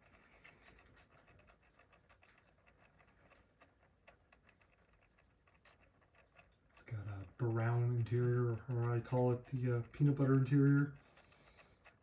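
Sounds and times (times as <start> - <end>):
faint irregular ticking: 0.0 - 12.0.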